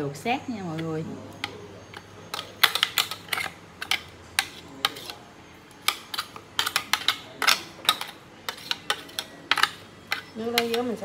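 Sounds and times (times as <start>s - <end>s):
kitchen utensils clicking and knocking: 0.7s - 11.0s.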